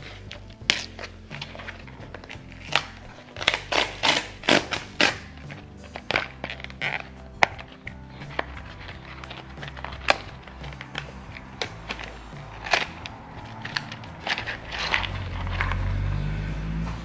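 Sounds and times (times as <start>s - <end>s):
cardboard ripping and crackling: 0.0s - 16.1s
soft background music: 0.0s - 17.0s.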